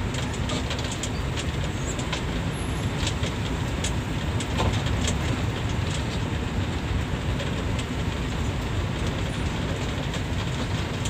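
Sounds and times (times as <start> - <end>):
bus engine and road rumble: 0.0 - 11.0
light clicks and rattles: 0.1 - 11.0.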